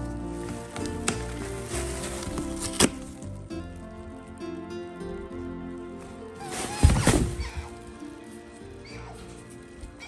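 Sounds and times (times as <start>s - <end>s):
plastic packing crinkling: 0.0s - 4.7s, 5.8s - 10.0s
background music: 0.0s - 10.0s.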